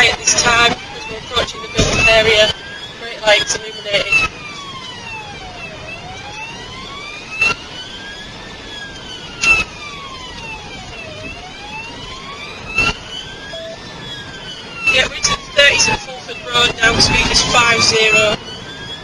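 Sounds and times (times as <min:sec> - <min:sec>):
police siren wailing: 0:00.0 - 0:19.0.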